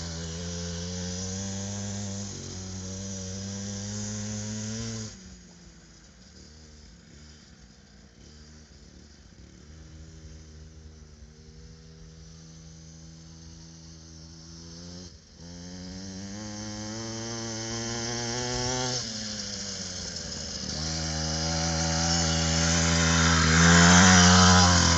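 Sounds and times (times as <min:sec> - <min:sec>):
dirt bike engine revving: 0:00.0 - 0:05.4, 0:08.2 - 0:24.9.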